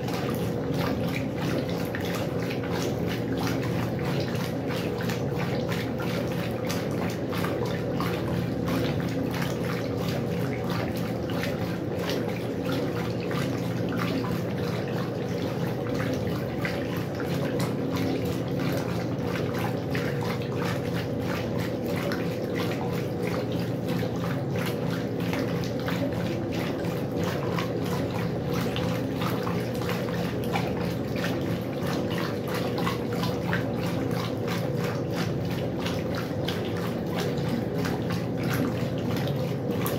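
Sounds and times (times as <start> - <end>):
motor hum: 0.0 - 39.9
water splashing in washing machine: 0.0 - 39.9.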